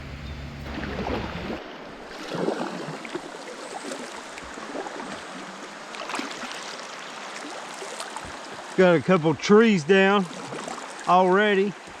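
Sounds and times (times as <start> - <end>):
river water gurgling and splashing: 0.0 - 12.0.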